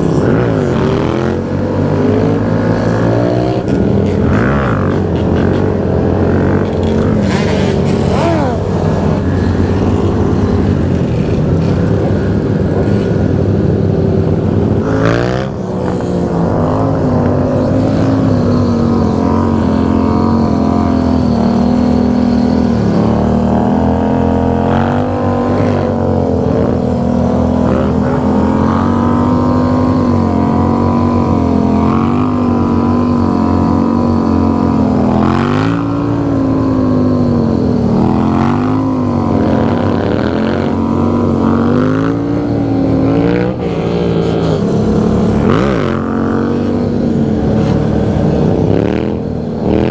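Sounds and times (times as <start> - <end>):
motorcycle engines running: 0.0 - 49.9.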